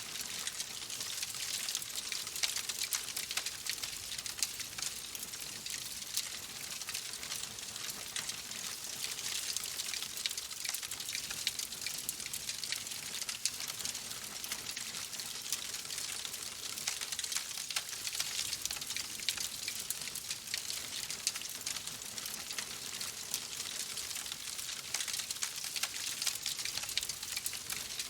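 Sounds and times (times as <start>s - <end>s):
raindrop ticks: 0.1s - 28.0s.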